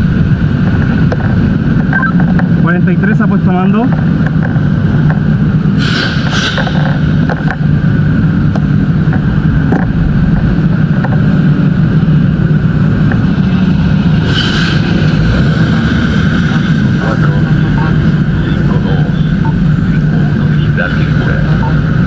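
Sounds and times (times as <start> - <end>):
vehicle engine droning: 0.0 - 22.0.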